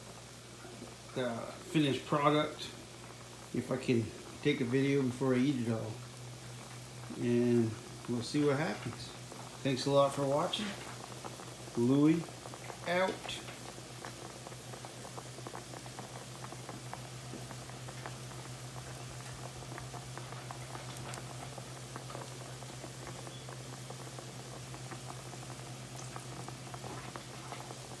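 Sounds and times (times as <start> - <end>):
water boiling and bubbling: 0.0 - 28.0.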